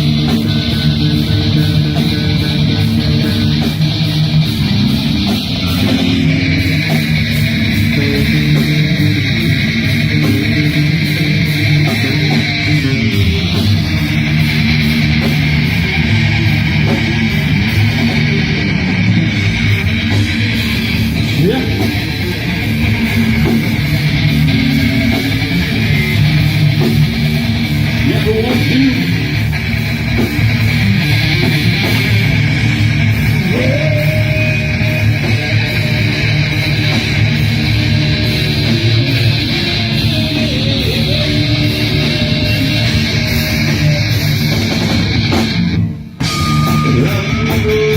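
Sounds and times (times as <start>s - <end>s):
bass guitar: 0.0s - 47.9s
heavy metal electric guitar riffs: 0.0s - 47.9s.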